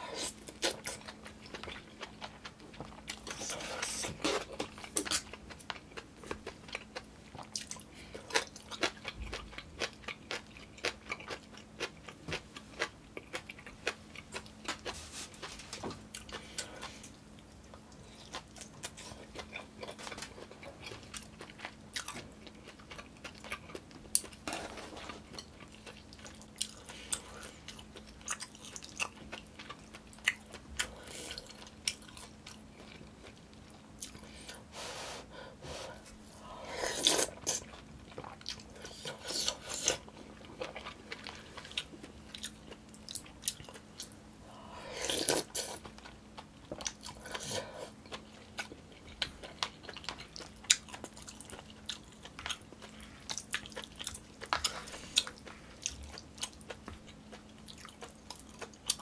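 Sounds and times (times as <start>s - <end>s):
person chewing food: 0.0s - 34.7s, 35.6s - 59.0s.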